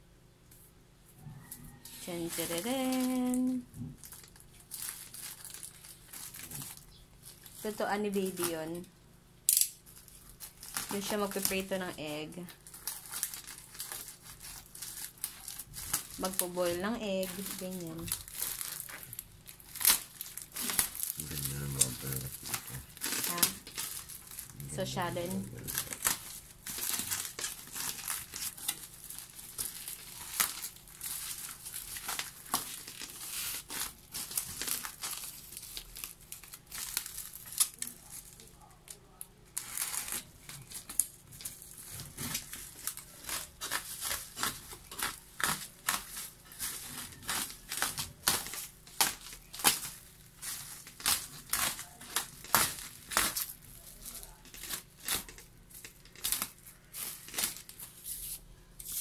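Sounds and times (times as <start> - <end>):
bubble wrap and plastic crinkling: 1.4 - 59.0.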